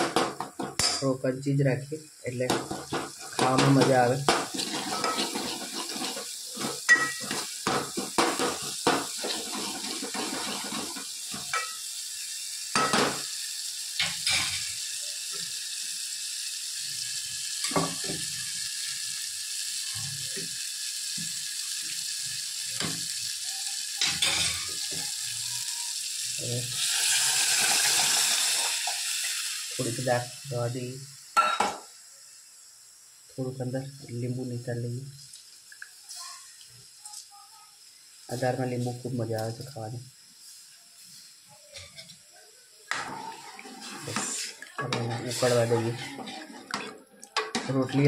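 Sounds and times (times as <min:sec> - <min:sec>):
frying sizzle: 0:00.0 - 0:48.0.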